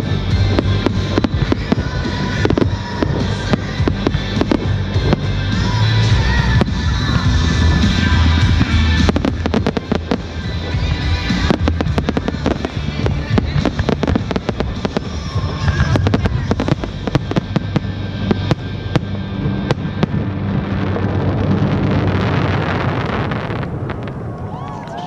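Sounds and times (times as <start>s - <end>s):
loud music: 0.0s - 23.9s
fireworks bursting: 0.0s - 25.0s.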